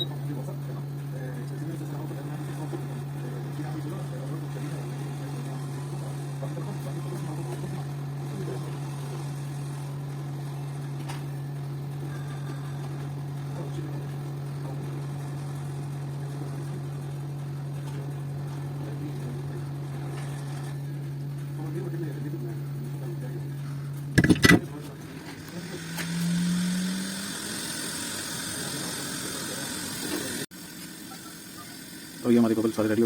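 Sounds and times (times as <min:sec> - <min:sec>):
electric fan motor humming: 0:00.0 - 0:33.0.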